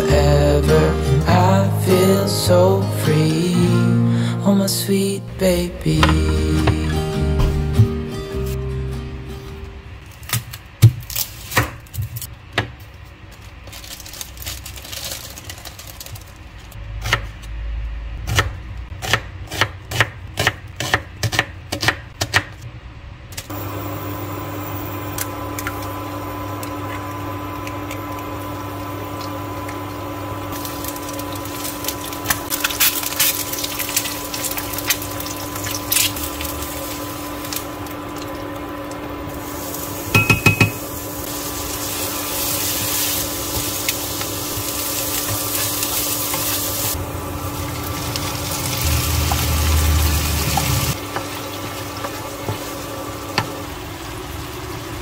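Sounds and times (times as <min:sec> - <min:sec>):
appliance hum: 0:00.0 - 0:55.0.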